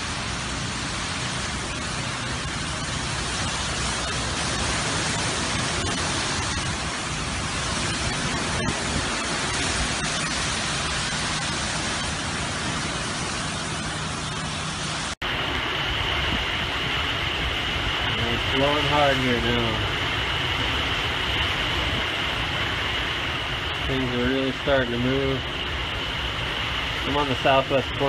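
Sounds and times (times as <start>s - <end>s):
heavy rain: 0.0s - 28.0s
strong wind: 0.0s - 28.0s.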